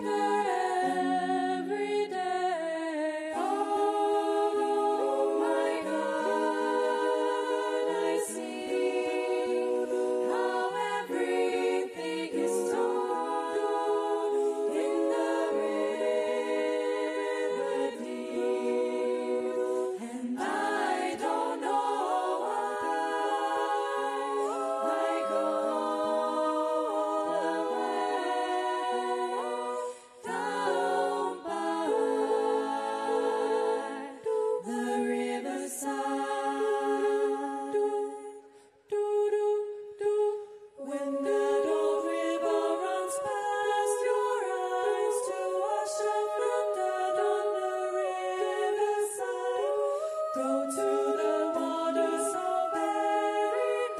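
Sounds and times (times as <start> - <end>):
female group singing a cappella: 0.0 - 53.9.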